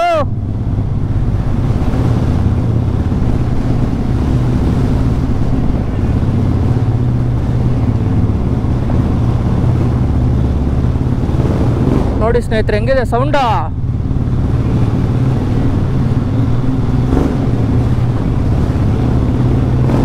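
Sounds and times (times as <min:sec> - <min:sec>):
motorcycle engine in tunnel: 0:00.0 - 0:20.0.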